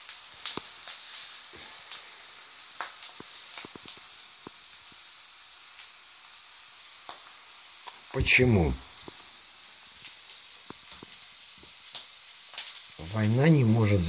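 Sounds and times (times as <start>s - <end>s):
oil crackling and popping: 0.0s - 14.0s
potatoes sizzling in oil: 0.0s - 14.0s.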